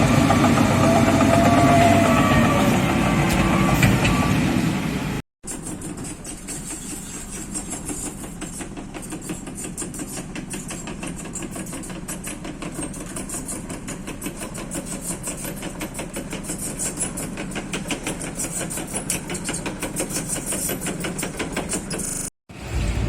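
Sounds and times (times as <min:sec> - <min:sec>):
diesel engine with ticking clatter: 0:00.0 - 0:04.5, 0:05.5 - 0:23.0.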